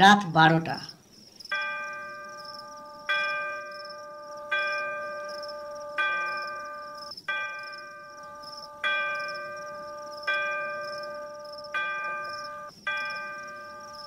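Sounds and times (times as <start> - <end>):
crickets chirring: 0.0 - 14.0
clock bell striking: 1.5 - 14.0.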